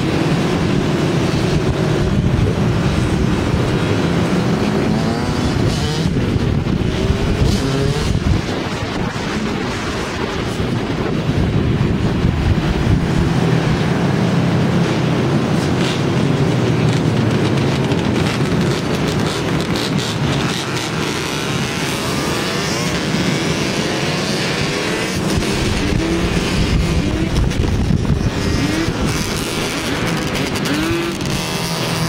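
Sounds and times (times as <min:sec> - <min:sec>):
atv and dirt bike engines: 0:00.0 - 0:32.0
engine throttle revs: 0:00.0 - 0:32.0.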